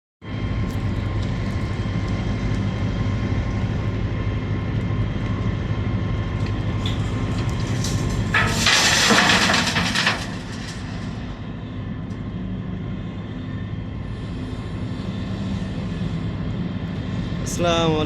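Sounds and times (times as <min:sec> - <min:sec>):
excavator diesel engine droning: 0:00.2 - 0:18.0
steady high whine: 0:00.2 - 0:18.0.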